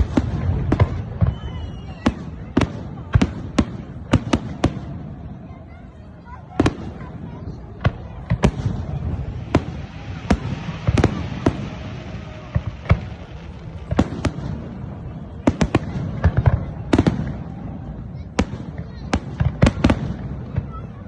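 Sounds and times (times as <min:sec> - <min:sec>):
firework bangs: 0:00.0 - 0:21.0.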